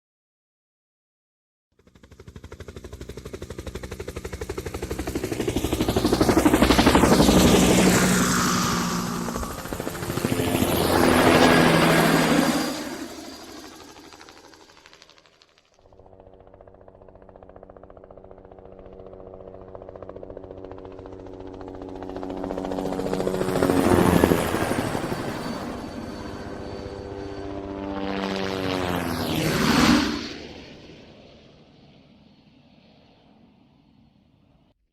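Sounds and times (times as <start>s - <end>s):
helicopter rotor blades chopping: 1.8s - 31.0s.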